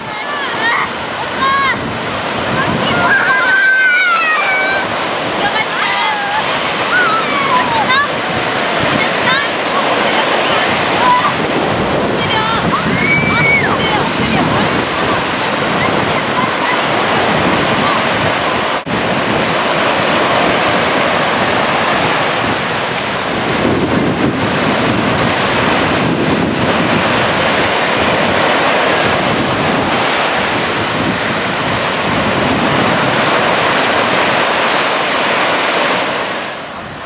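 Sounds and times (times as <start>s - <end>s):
surf breaking and washing: 0.0s - 37.0s
wind buffeting microphone: 0.0s - 37.0s.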